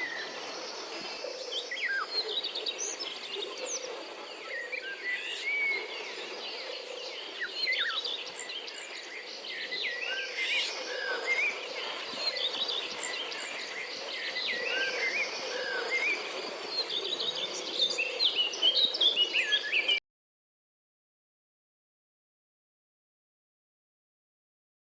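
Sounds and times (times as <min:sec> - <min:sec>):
birds chirping and whistling: 0:00.0 - 0:20.0
steady outdoor hiss: 0:00.0 - 0:20.0.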